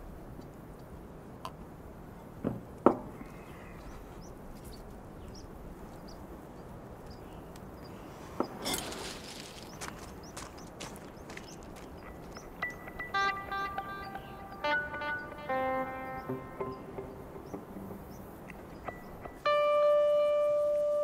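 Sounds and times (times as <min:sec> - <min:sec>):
outdoor air ambience: 0:00.0 - 0:21.0.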